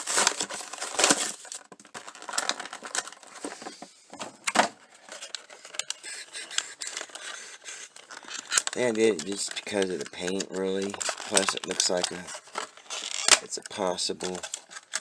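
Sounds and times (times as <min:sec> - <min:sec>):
toy packaging crinkling: 0:00.0 - 0:03.8, 0:04.7 - 0:15.0.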